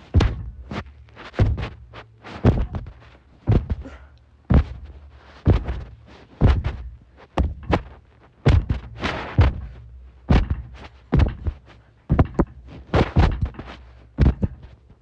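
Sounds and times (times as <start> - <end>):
punches landing with heavy thuds: 0.0 - 14.8.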